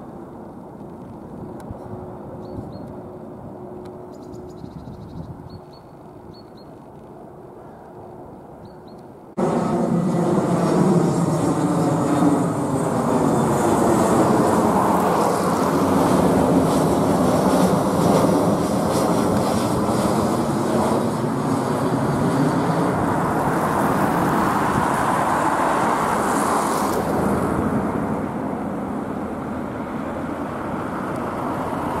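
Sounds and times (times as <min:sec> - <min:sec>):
jet airliner passing overhead: 0:00.0 - 0:06.3, 0:07.2 - 0:32.0.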